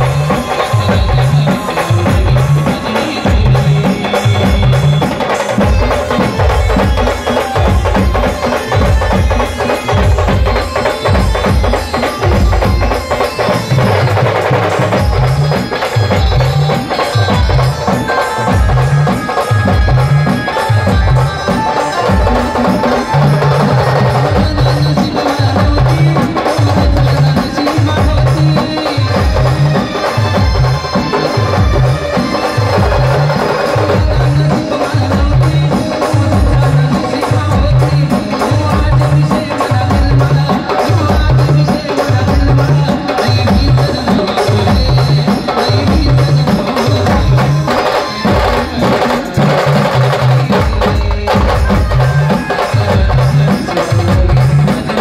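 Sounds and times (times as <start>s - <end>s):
heavy drum beat: 0.0s - 55.0s
street band playing folk music: 0.0s - 55.0s.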